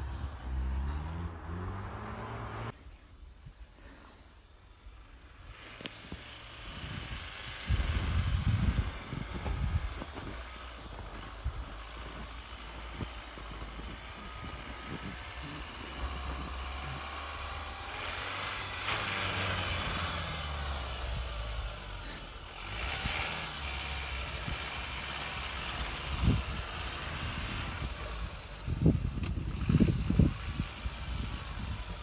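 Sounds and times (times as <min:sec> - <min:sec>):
truck engine running slowly: 0:00.0 - 0:02.8, 0:04.9 - 0:32.0.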